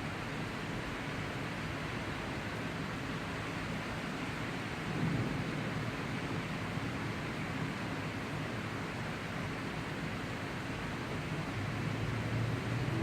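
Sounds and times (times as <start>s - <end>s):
hiss of rain: 0.0s - 13.0s.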